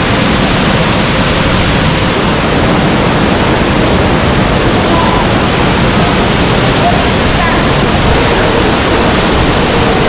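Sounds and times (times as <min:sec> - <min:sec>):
underground waterfall rushing: 0:00.0 - 0:10.0.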